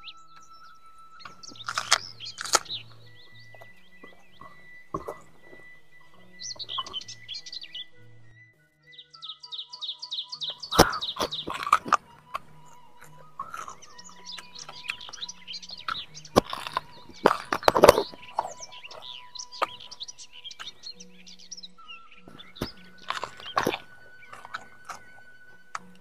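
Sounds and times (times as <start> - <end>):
small birds chirping: 0.0 - 26.0
crunching and chewing vegetables: 1.2 - 7.8, 10.5 - 26.0.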